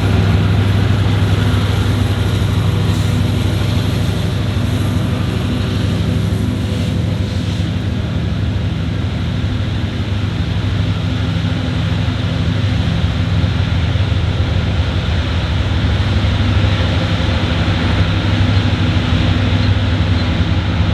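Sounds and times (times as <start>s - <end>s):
diesel locomotive engine drone: 0.0s - 20.9s.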